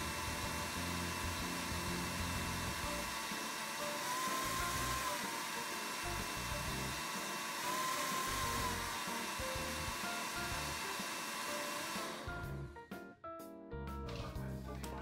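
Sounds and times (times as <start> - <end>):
blender motor whirring: 0.0 - 12.6
soft background music: 0.0 - 15.0.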